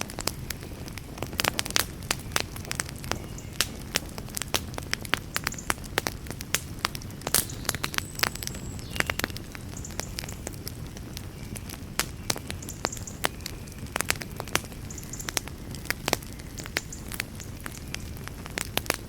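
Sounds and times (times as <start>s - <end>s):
burning wood hissing: 0.0s - 19.0s
low rumble of flame: 0.0s - 19.0s
wood fire crackling and popping: 0.0s - 19.0s.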